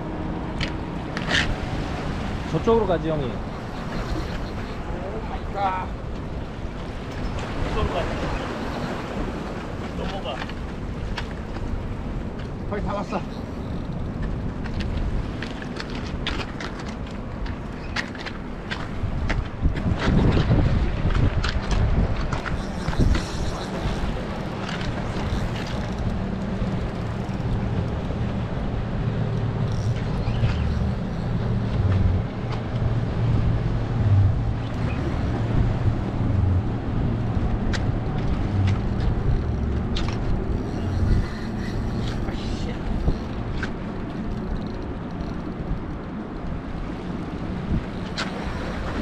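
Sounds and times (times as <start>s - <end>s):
low engine hum: 0.0s - 5.2s, 13.5s - 49.0s.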